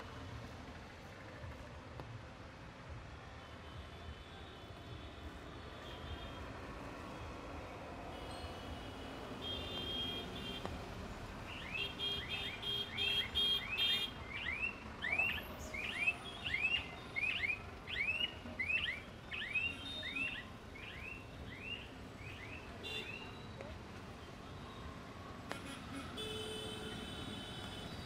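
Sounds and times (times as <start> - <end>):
road traffic hum: 0.0 - 28.0.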